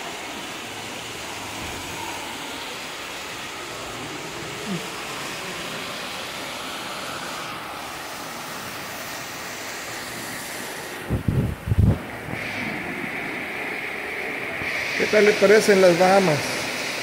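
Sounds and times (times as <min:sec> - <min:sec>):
fountain water splashing: 0:00.0 - 0:11.1, 0:11.8 - 0:17.0.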